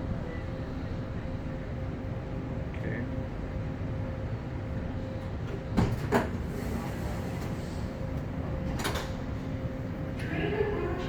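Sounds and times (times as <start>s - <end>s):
train low hum: 0.0s - 11.0s.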